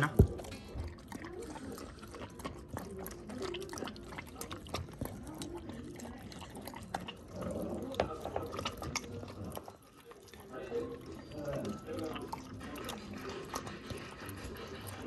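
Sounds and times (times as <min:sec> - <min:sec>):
dog chewing kibble: 0:00.0 - 0:15.0.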